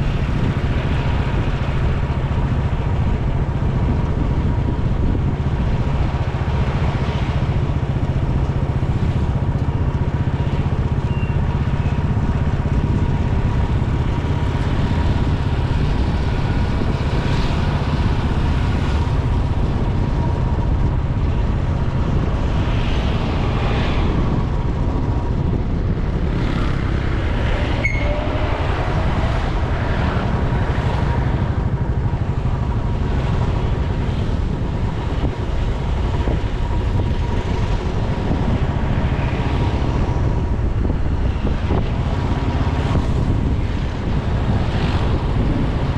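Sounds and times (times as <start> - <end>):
motorcycle engine running: 0.0 - 45.9
road noise: 0.0 - 45.9.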